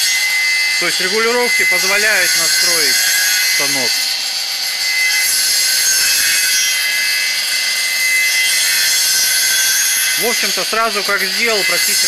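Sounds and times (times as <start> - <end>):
circular saw cutting wood: 0.0 - 12.0.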